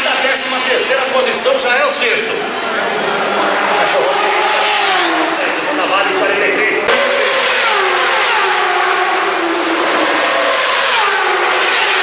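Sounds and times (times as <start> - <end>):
motorcycle engines passing: 0.0 - 12.0.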